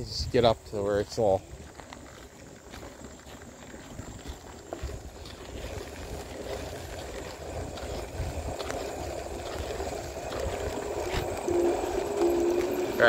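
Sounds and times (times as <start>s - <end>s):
wind buffeting microphone: 0.0s - 1.8s, 3.8s - 13.0s
scooter tyre noise: 1.1s - 13.0s.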